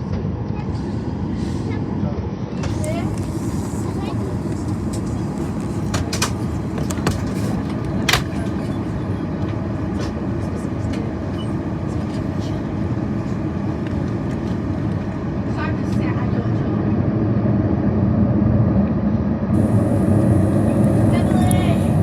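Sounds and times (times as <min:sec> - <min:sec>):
jet engines low rumble: 0:00.0 - 0:22.0.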